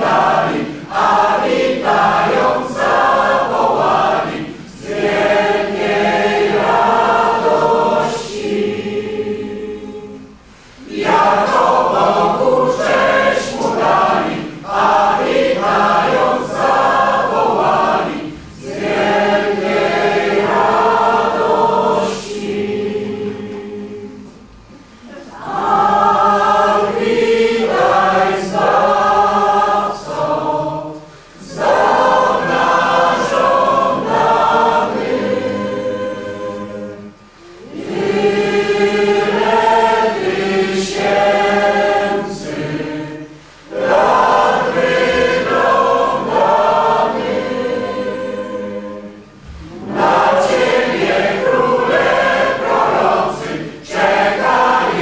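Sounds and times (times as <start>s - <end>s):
mixed choir singing a carol: 0.0s - 55.0s.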